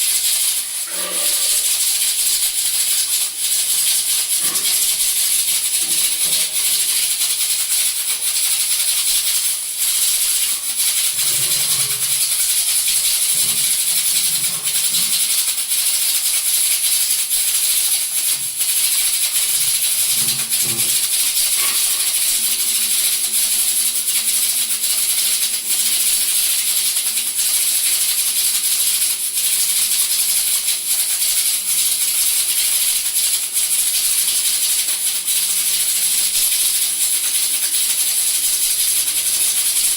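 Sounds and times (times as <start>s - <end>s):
pressure cooker steam hissing: 0.0s - 39.9s.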